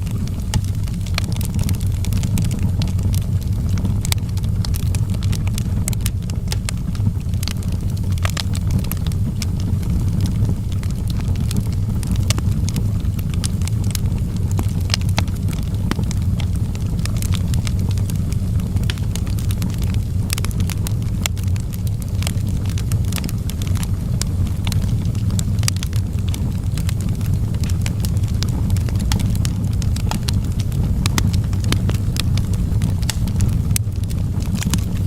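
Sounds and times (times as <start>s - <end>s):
fire rumbling: 0.0s - 35.0s
logs crackling and popping: 0.0s - 35.0s.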